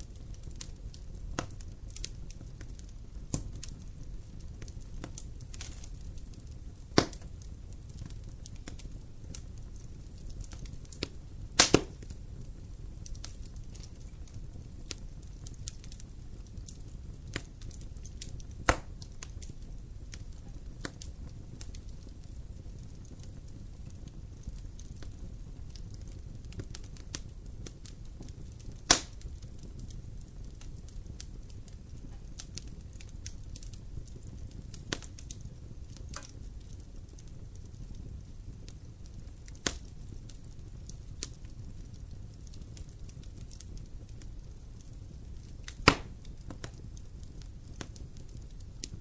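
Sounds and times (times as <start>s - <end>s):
fire crackling in fireplace: 0.0s - 49.0s
fire pops: 0.0s - 49.0s.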